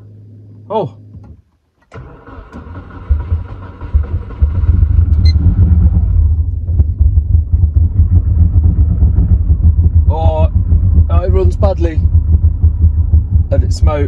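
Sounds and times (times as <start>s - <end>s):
car engine rumbling unevenly: 0.0s - 14.0s.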